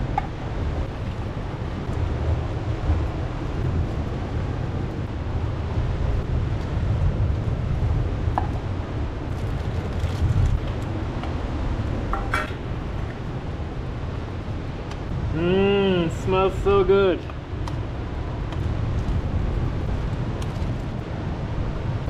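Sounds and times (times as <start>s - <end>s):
low rumbling wind: 0.0s - 22.0s.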